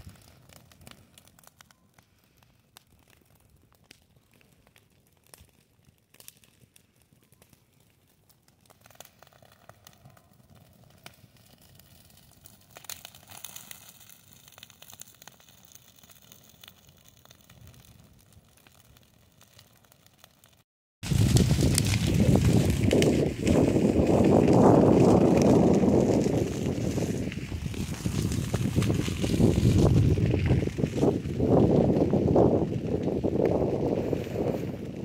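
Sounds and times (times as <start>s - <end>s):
grass fire crackling: 0.0s - 35.0s.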